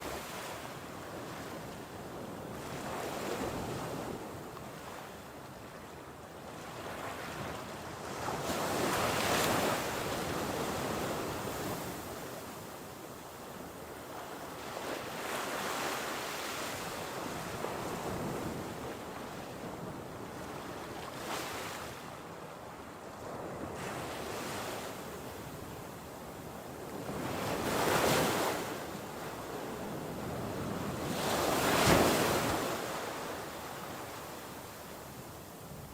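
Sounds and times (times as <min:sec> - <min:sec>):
waves breaking and washing in: 0:00.0 - 0:35.9.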